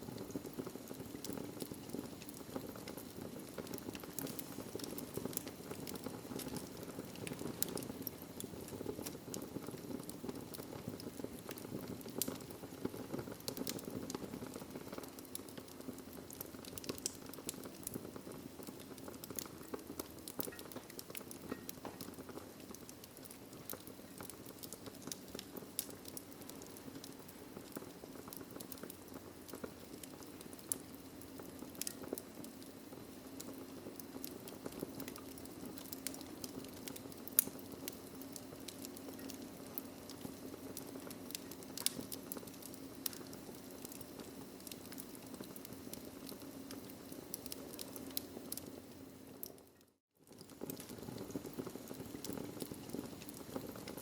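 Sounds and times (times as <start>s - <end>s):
fire pops and snaps: 0.0s - 54.0s.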